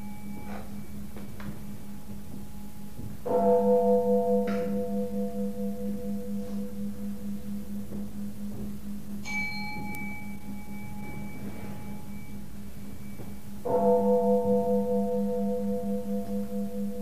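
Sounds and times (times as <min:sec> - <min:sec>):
low bell hum: 0:00.0 - 0:17.0
low-pitched bell struck: 0:00.0 - 0:17.0
high-pitched bell struck: 0:01.8 - 0:17.0.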